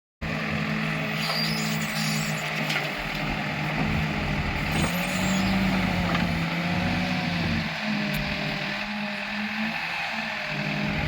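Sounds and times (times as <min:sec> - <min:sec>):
heavy machinery diesel engine: 0:00.2 - 0:11.0.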